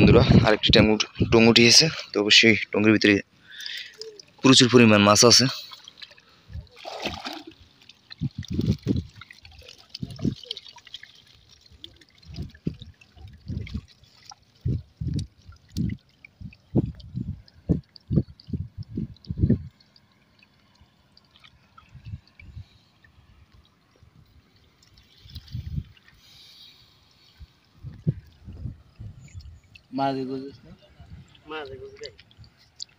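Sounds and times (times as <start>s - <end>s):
shallow water splashing: 3.0s - 32.9s.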